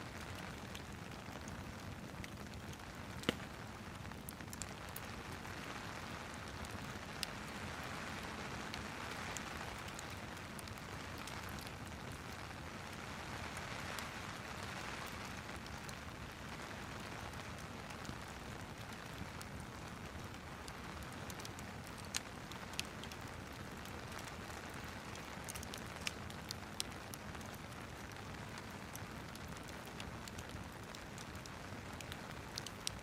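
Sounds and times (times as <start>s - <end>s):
burning wood crackling: 0.0s - 33.0s.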